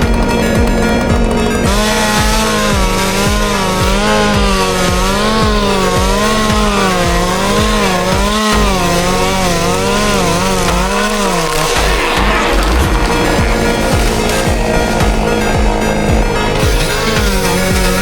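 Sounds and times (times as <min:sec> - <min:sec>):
chainsaw cutting: 0:00.0 - 0:18.0
music beat: 0:00.0 - 0:18.0.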